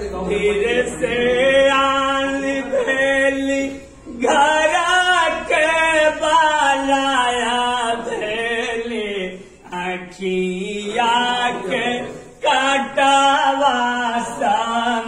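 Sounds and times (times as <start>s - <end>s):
man singing mournful song: 0.0s - 15.0s.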